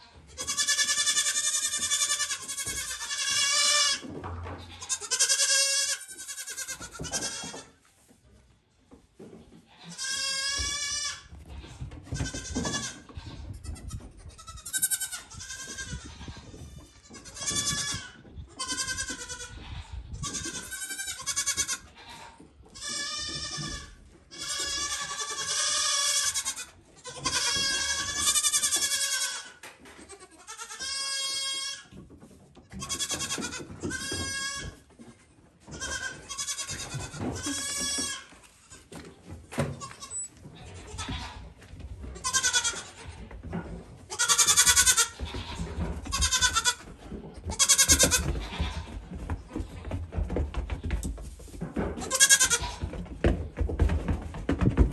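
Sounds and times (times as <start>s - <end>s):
goat kids bleating: 0.0s - 7.8s, 9.6s - 31.9s, 32.7s - 39.0s, 39.6s - 43.4s, 44.1s - 49.8s, 52.0s - 53.0s.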